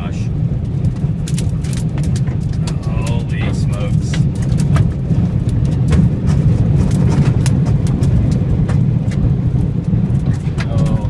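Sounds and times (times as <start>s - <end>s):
wind rumbling against truck: 0.0s - 11.0s.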